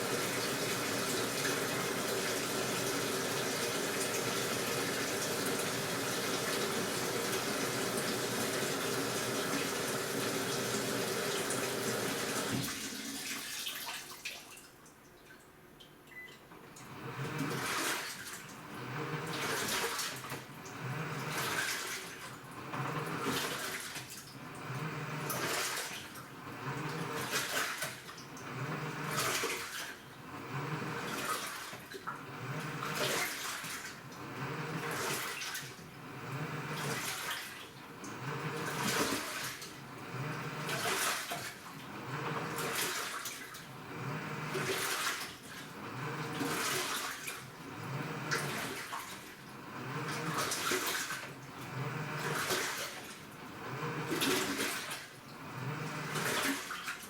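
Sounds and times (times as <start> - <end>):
washing machine churning water: 0.0 - 15.4, 16.1 - 57.0
washing machine filling with water: 0.0 - 57.0.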